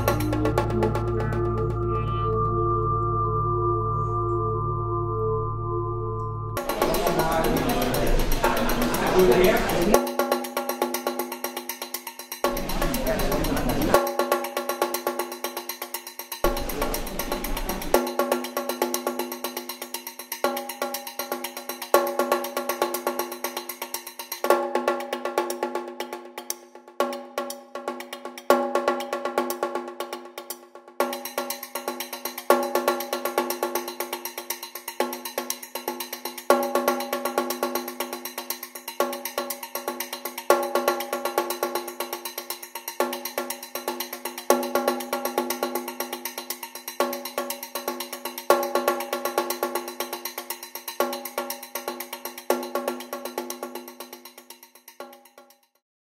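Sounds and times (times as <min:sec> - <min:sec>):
background music with percussion: 0:00.0 - 0:55.8.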